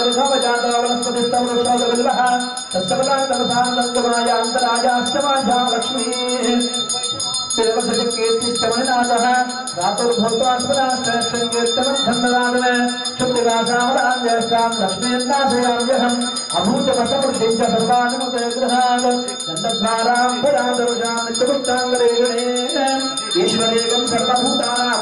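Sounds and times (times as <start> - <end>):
metal bell ringing: 0.0 - 25.0.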